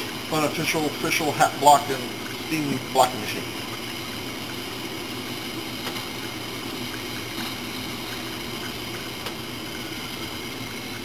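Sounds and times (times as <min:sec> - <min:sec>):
steaming equipment humming and hissing: 0:00.0 - 0:11.0.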